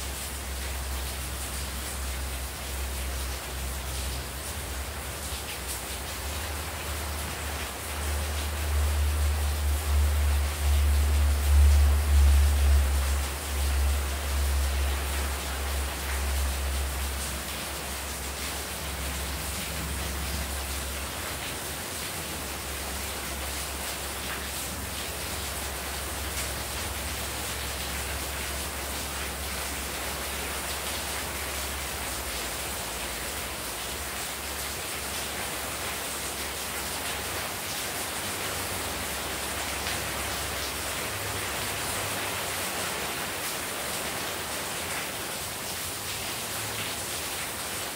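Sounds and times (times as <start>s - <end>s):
heavy rain on pavement: 0.0s - 47.9s
runoff pouring off roof: 0.0s - 47.9s.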